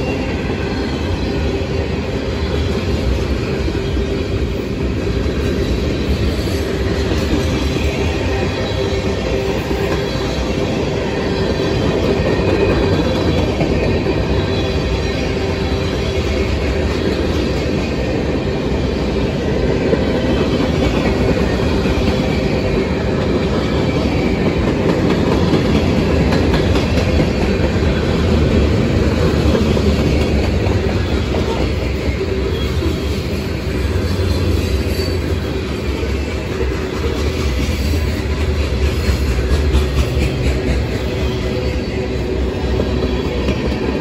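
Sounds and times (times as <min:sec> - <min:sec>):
steel wheels rumbling on rails: 0:00.0 - 0:44.0.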